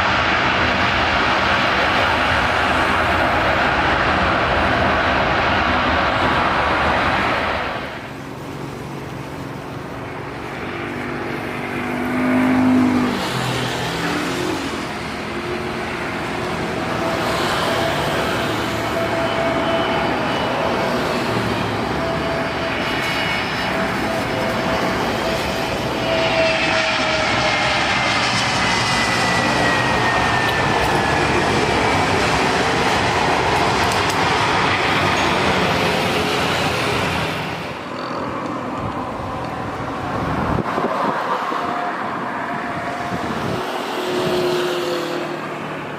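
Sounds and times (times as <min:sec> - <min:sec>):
descending engine whine: 0:00.0 - 0:45.9
jet engine rush: 0:00.0 - 0:45.9.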